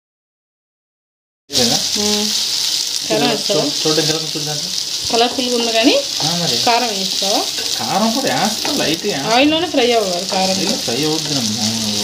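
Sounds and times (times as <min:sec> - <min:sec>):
onion and tomato sizzling in oil: 0:01.5 - 0:12.0.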